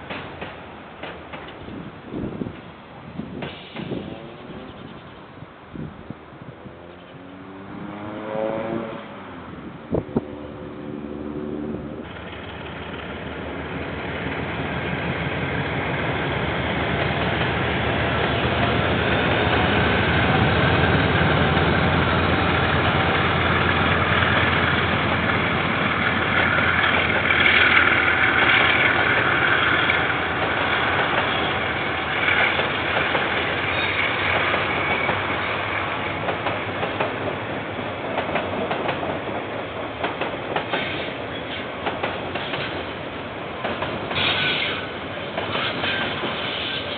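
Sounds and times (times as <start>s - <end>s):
train rolling by: 0.0s - 46.9s
diesel train engine rumble: 8.9s - 46.9s.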